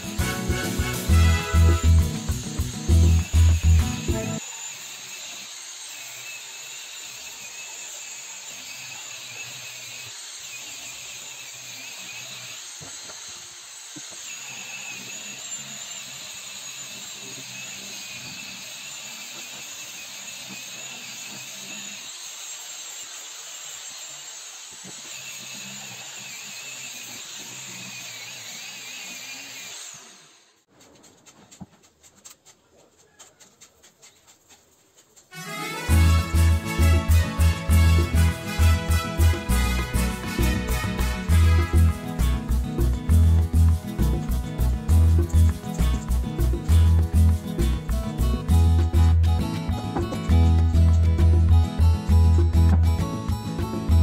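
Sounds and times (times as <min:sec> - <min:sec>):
angle grinder sanding wood: 0:00.0 - 0:54.0.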